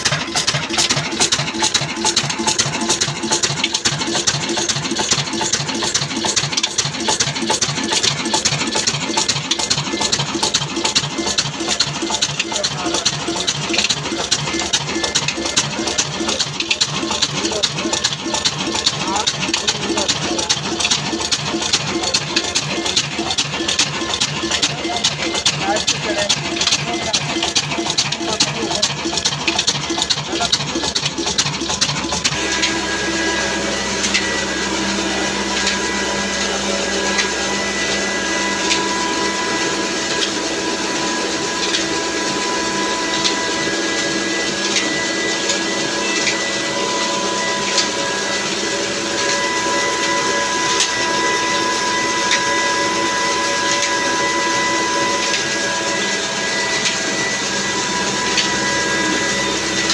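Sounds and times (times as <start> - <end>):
diesel engine firing: 0.0 - 59.9
mill machinery whirring: 0.0 - 59.9.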